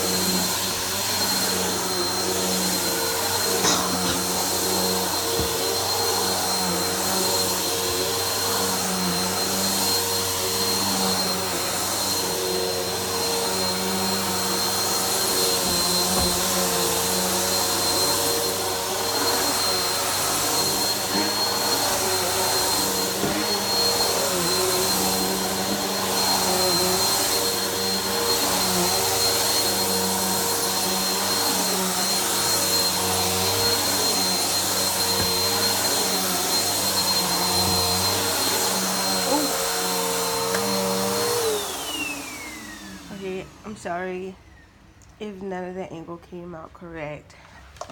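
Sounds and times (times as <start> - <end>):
vacuum cleaner running: 0.0 - 46.6.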